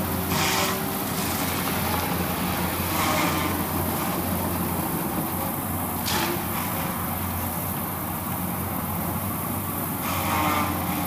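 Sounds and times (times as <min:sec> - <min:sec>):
heavy machine engine drone: 0:00.0 - 0:11.0.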